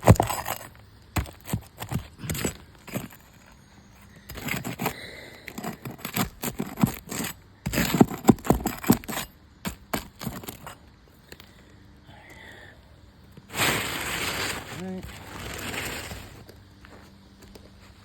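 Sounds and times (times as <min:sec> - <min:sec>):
tool scraping against shingles: 0:00.0 - 0:10.9, 0:13.4 - 0:17.9.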